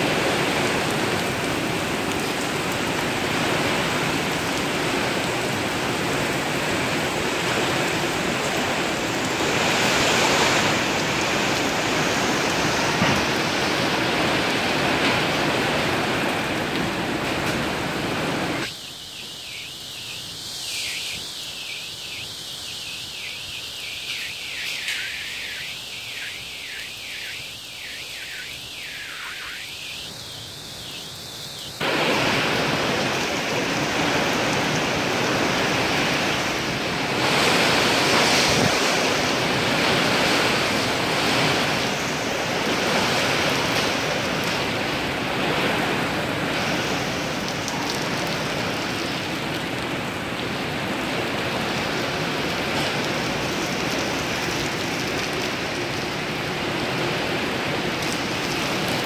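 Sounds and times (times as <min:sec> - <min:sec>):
heavy rain in windy storm: 0:00.0 - 0:59.0.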